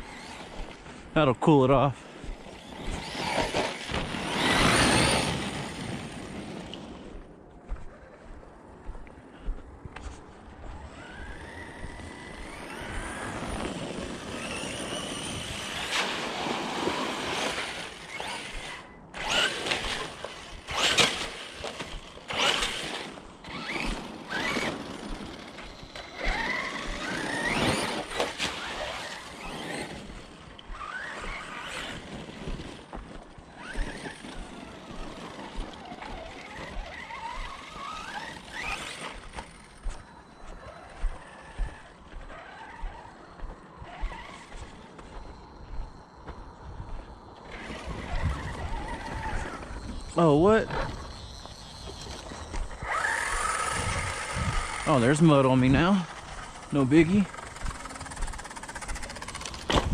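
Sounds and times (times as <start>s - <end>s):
electric motor whine: 2.2s - 7.0s, 10.6s - 59.9s.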